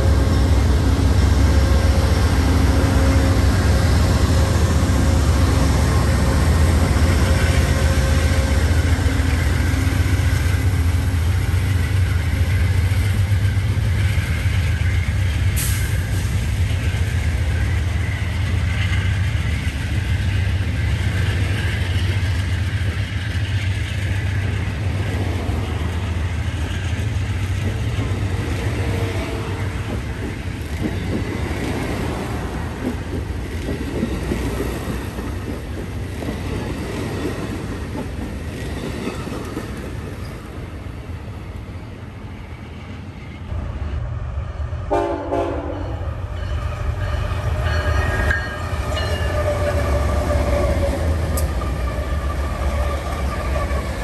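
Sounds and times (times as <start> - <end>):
diesel locomotive rumble: 0.0 - 54.0
train cars rolling on rails: 0.0 - 54.0.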